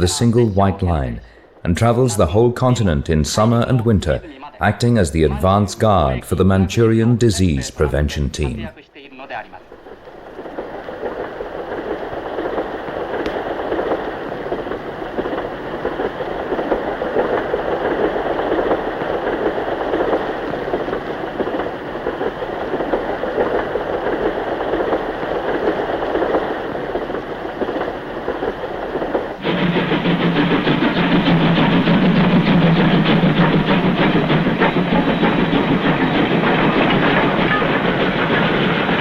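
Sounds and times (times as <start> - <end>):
train rumbling along tracks: 0.0 - 39.0.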